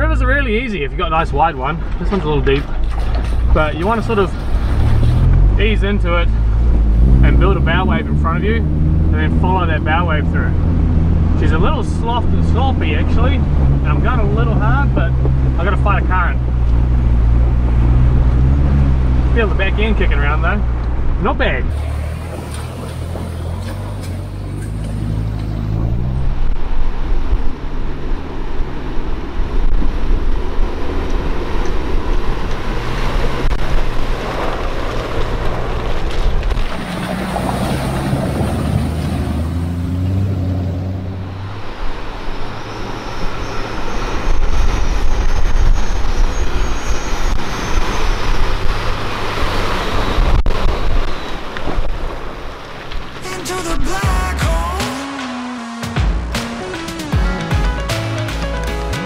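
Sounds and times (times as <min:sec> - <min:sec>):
vehicle engines under load: 0:00.0 - 0:59.0
water splashing around wheels: 0:01.0 - 0:54.0.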